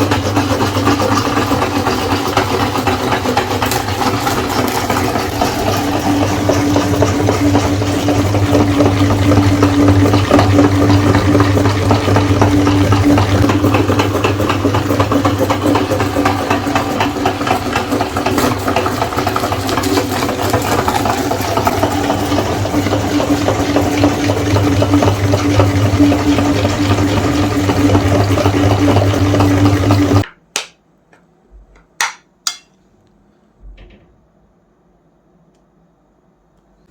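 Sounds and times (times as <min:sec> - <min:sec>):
electric meat grinder running: 0:00.0 - 0:30.2.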